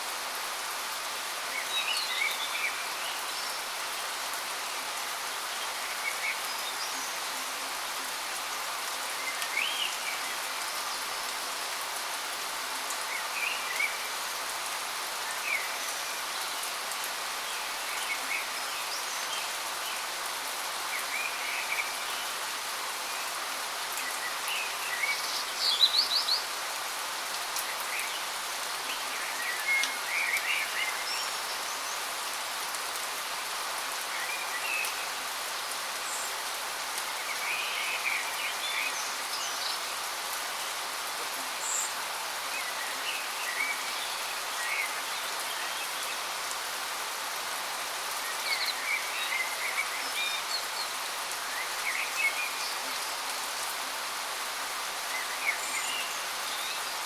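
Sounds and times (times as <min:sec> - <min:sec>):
songbirds chirping: 0:00.2 - 0:57.0.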